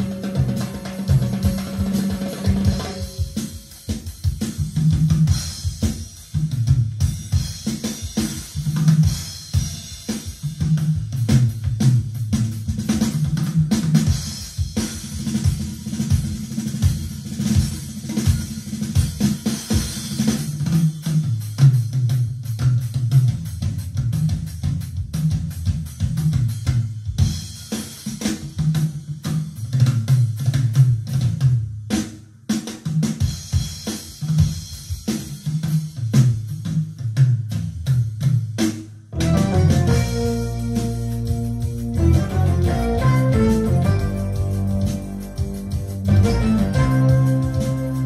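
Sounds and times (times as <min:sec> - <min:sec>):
music with drum kit and bass: 0:00.0 - 0:48.0.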